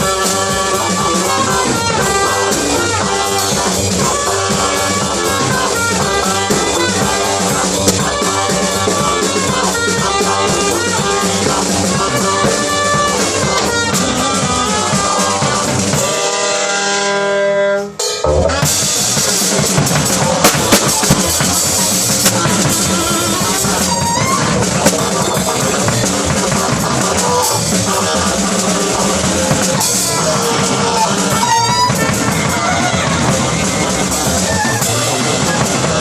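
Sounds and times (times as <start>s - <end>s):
busy drums and cymbals: 0.0s - 17.2s, 17.8s - 36.0s
horn holding long note: 0.0s - 36.0s
jazz band playing: 0.0s - 36.0s.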